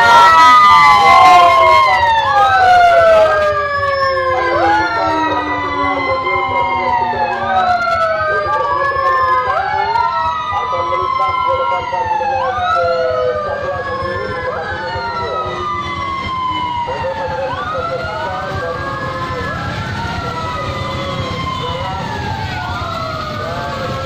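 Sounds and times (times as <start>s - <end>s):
car engines rumbling: 0.0s - 24.0s
sirens wailing: 0.0s - 24.0s.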